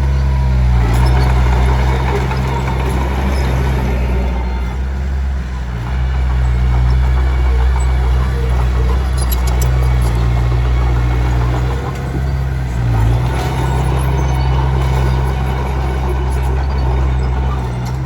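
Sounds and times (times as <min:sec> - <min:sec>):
bulldozer diesel engine running: 0:00.0 - 0:18.0
rough grinding scraping: 0:00.0 - 0:18.0.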